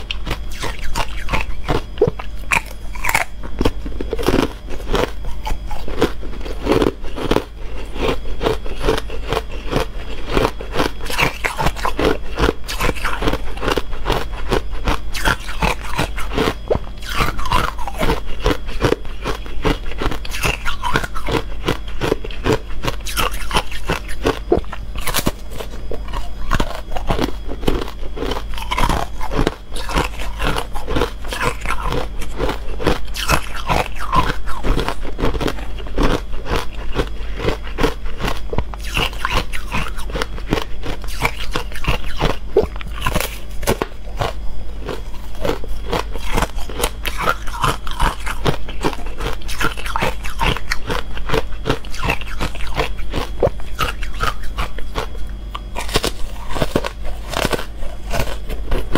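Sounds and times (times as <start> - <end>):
ice crunching being chewed: 0.0 - 58.9
low hum: 0.0 - 58.9.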